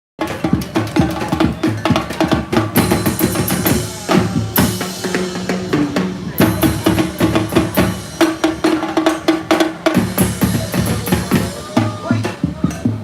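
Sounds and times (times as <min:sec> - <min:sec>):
drum kit beat: 0:00.2 - 0:13.0.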